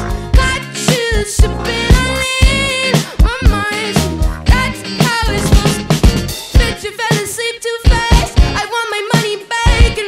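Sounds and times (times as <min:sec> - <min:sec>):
funk pop band music: 0:00.0 - 0:10.0
woman singing: 0:00.3 - 0:10.0.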